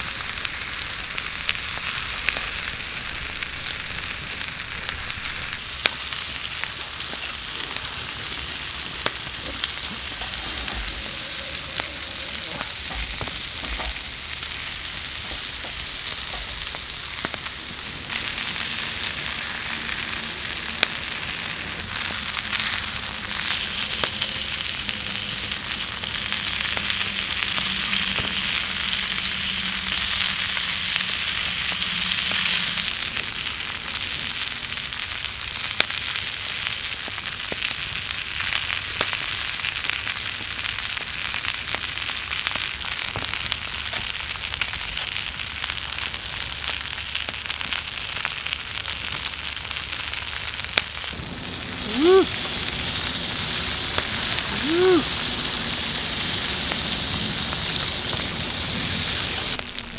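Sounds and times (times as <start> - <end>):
meat sizzling on a griddle: 0.0 - 59.9.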